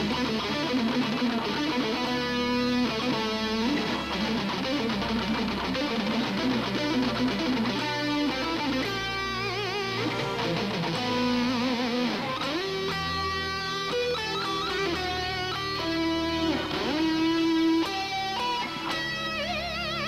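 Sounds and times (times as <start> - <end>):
electric guitar solo: 0.0 - 20.0.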